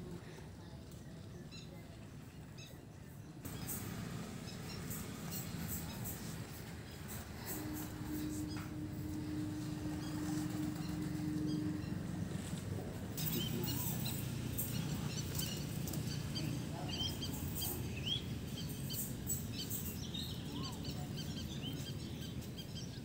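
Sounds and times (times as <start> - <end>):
low background noise: 0.0 - 23.0
small birds chirping: 0.0 - 23.0.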